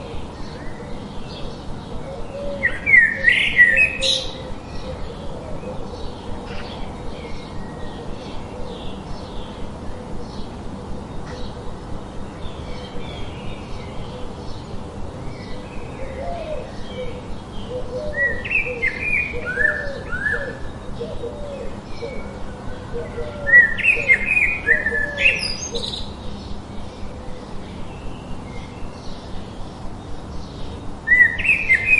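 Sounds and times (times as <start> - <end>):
rising and falling bird calls: 0.0 - 11.7, 12.4 - 29.4, 30.5 - 31.9
birds chirping: 0.0 - 31.9.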